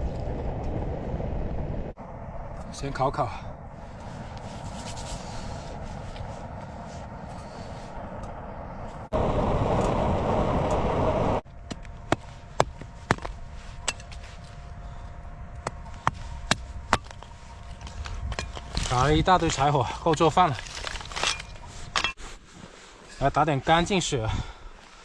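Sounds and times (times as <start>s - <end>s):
steady hum and rush: 0.0s - 22.2s.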